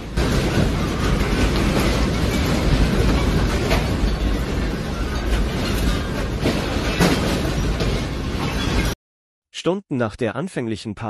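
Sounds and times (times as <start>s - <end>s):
shelves and stock rattling: 0.0s - 9.0s.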